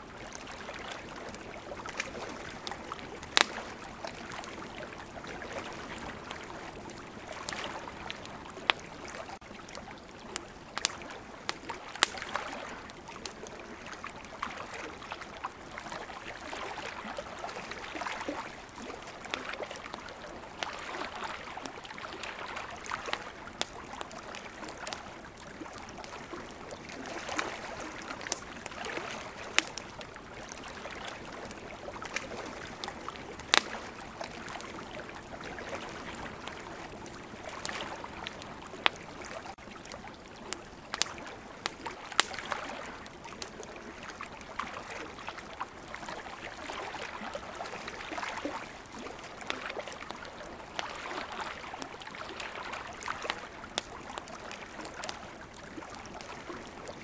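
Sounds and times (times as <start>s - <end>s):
sea waves: 0.0s - 57.0s
campfire crackling and popping: 0.1s - 57.0s.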